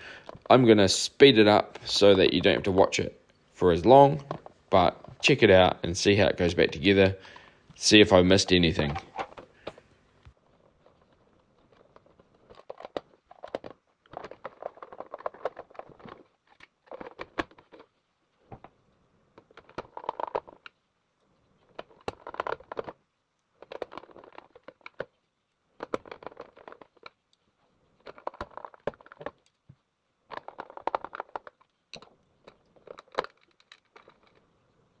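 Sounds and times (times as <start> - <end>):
plastic parts clicking and rattling: 0.1 - 0.6, 4.0 - 34.6.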